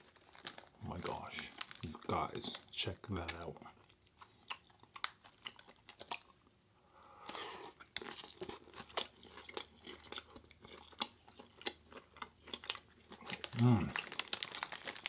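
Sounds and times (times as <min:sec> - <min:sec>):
chewing crunchy tortilla chip: 0:00.0 - 0:06.4, 0:07.3 - 0:15.0.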